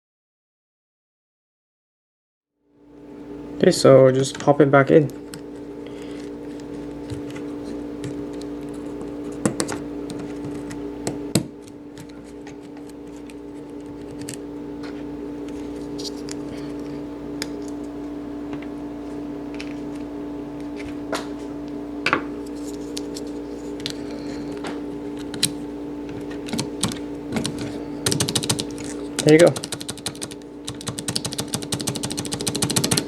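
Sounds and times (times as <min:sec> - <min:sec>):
steady hum: 0:02.7 - 0:33.0.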